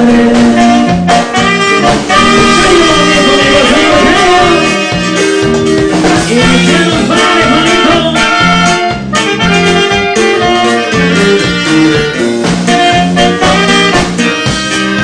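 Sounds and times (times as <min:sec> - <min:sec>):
bouncing bass line: 0:00.0 - 0:15.0
button accordion melody: 0:00.0 - 0:15.0
saxophone melody: 0:00.0 - 0:15.0.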